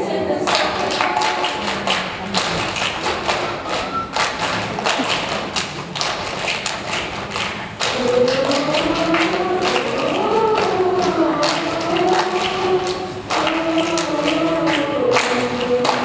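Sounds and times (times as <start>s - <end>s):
choir voices: 0.0s - 16.0s
people clapping and patting bodies: 0.5s - 16.0s.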